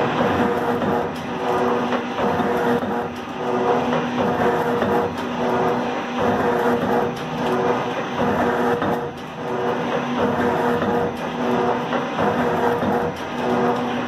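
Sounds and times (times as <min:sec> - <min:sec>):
mechanical hum: 0:00.0 - 0:14.0
metal shaper ram stroking: 0:00.0 - 0:14.0.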